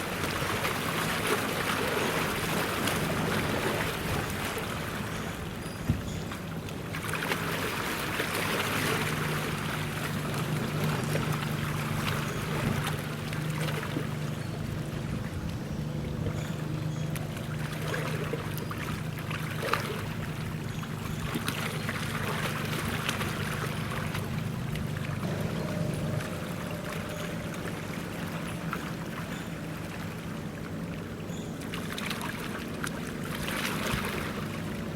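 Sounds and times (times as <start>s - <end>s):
boat engine droning: 0.0s - 34.9s
water: 0.0s - 34.9s
wind: 0.0s - 34.9s.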